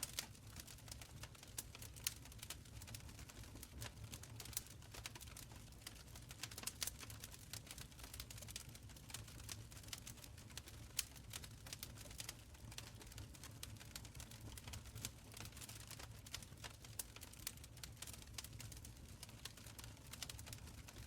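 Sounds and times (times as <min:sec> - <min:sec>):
low rumble of burning: 0:00.0 - 0:21.0
wood fire crackling: 0:00.0 - 0:21.0.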